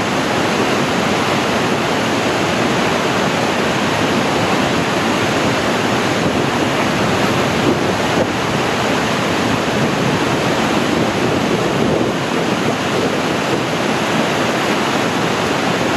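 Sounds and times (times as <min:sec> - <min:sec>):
river rushing through rapids: 0:00.0 - 0:15.9.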